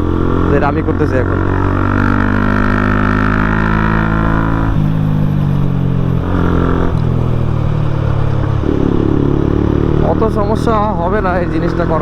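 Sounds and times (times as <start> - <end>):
motorcycle engine under throttle: 0.0 - 12.0.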